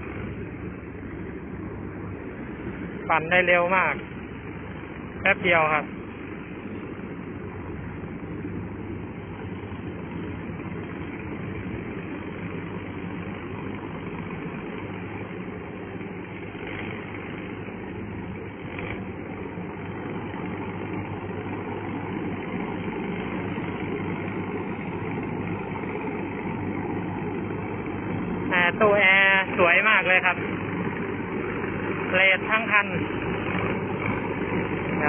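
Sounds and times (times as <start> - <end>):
rotor churning mud: 0.0 - 35.0
tiller engine running: 3.7 - 35.0.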